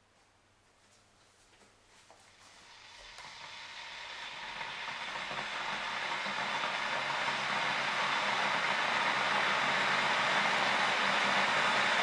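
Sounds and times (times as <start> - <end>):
kettle heating water hiss: 2.2 - 12.0.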